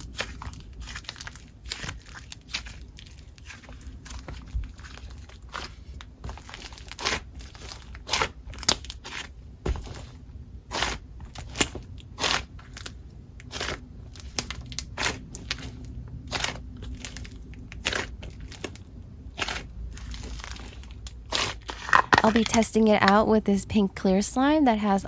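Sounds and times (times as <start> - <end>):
slime squelching and popping: 0.0 - 22.6.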